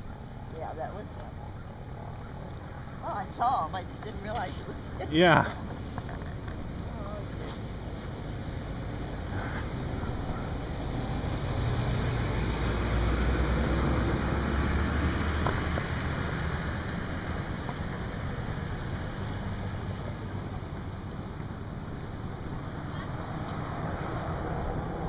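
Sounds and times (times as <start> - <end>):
engine hum passing by: 0.0 - 25.0.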